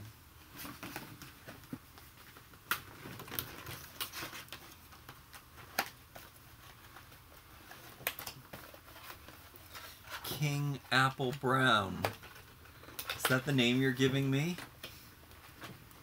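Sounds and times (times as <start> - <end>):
plastic blister packaging crackling: 0.6 - 16.0.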